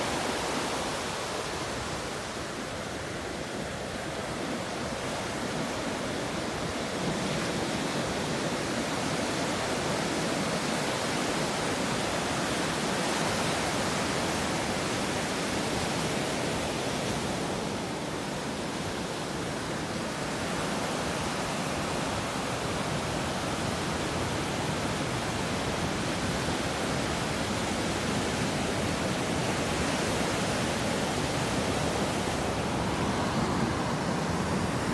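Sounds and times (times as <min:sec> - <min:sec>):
ocean waves breaking on beach: 0:00.0 - 0:34.9.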